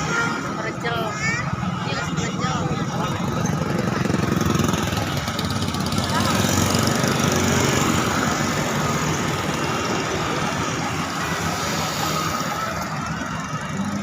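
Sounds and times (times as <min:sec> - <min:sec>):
bus engine running: 0:00.0 - 0:14.0
road traffic: 0:00.0 - 0:14.0.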